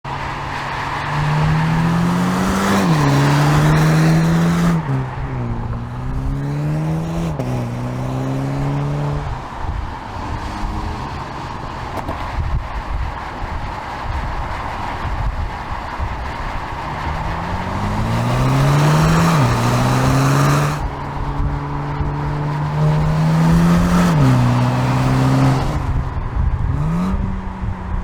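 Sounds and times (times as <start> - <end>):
car engine accelerating through gears: 0.2 - 12.6, 16.0 - 28.0.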